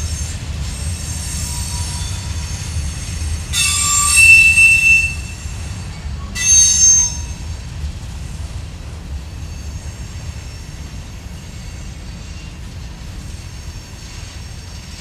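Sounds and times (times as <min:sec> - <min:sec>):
train wheels squealing: 0:00.0 - 0:07.8, 0:09.3 - 0:15.0
low train rumble: 0:00.0 - 0:15.0.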